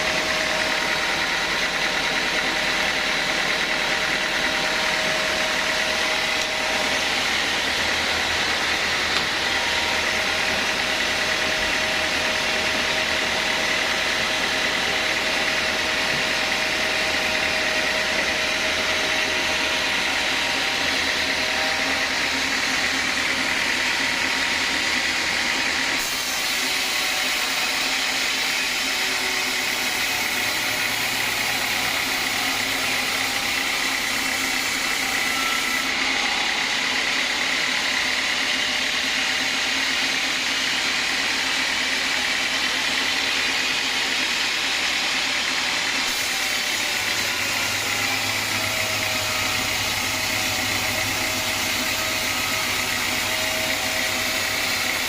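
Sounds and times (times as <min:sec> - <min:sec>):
band saw running: 0:00.0 - 0:55.0.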